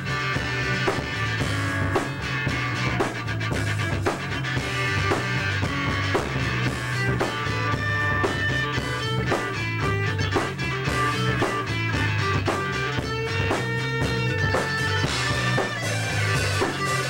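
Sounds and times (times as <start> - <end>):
drum kit beat: 0.0 - 17.0
keyboard: 0.0 - 17.0.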